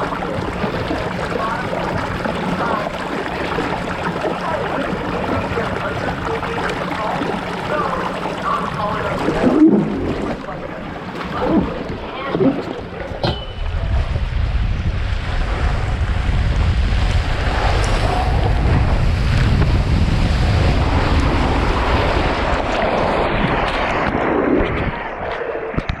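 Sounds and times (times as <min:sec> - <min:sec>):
water rushing on a water slide: 0:00.0 - 0:26.0
wind buffeting microphone: 0:00.0 - 0:26.0.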